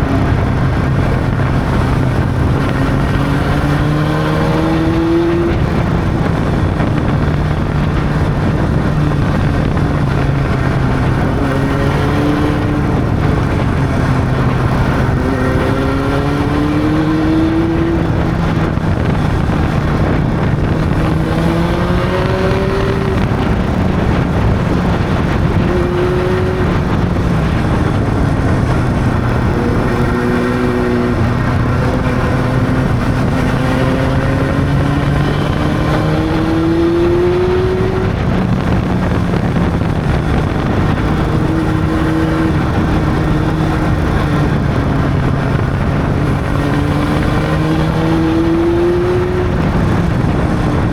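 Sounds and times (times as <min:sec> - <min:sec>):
motorcycle engine accelerating: 0:00.0 - 0:50.9
wind and road noise: 0:00.0 - 0:50.9.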